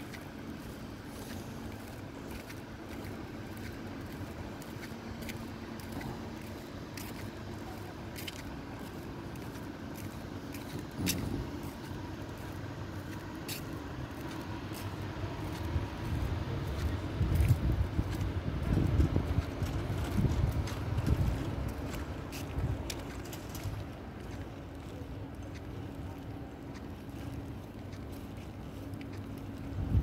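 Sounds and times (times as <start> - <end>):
low hum and rumble: 0.0 - 30.0.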